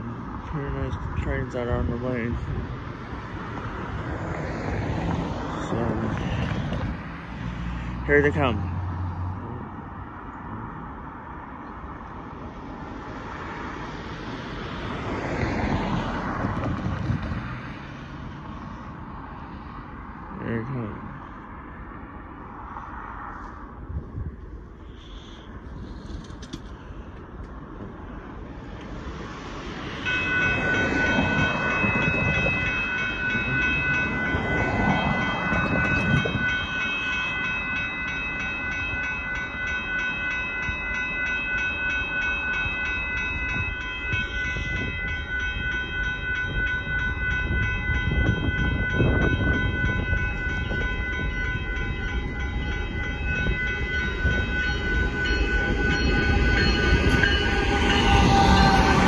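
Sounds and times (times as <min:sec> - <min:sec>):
crossing bells ringing: 0:00.0 - 0:22.4, 0:26.7 - 0:59.0
low train rumble: 0:00.0 - 0:59.0.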